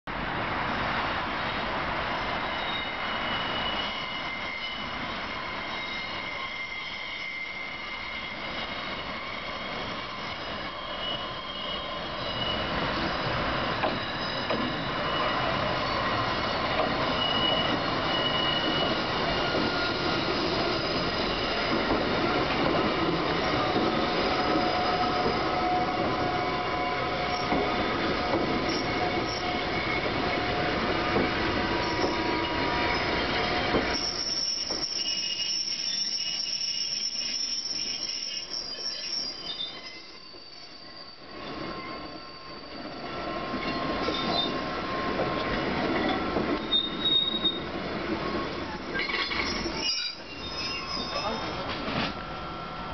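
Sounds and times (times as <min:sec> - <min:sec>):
train wheels squealing: 0:01.4 - 0:52.9.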